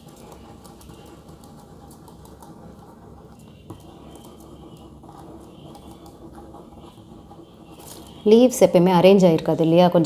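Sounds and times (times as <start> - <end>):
pen scratching on paper: 0.0 - 8.4.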